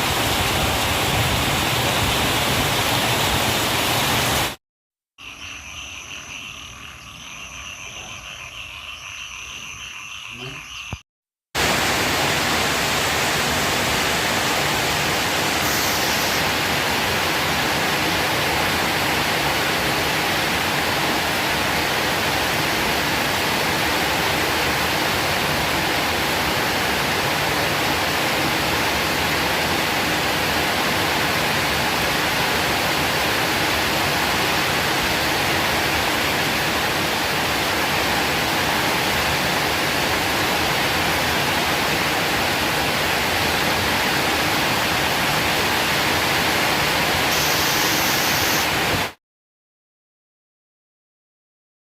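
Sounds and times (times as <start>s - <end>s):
heavy rain pouring: 0.0s - 4.6s, 11.6s - 49.2s.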